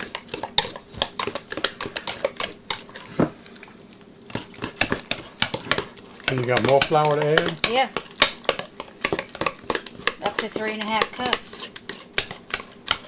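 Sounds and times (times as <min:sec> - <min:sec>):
dough squelching: 0:00.0 - 0:13.0.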